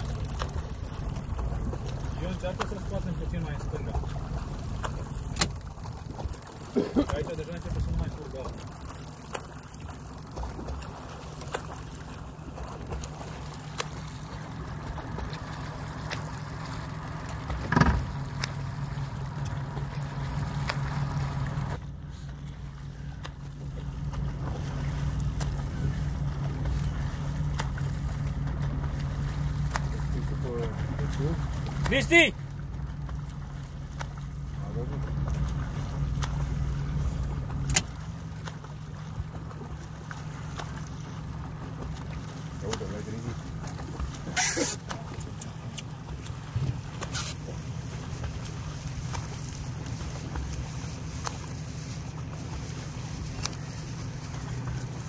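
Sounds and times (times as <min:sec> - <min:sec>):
boat motor running: 0:00.0 - 0:55.0
water splashes and slaps: 0:00.0 - 0:55.0.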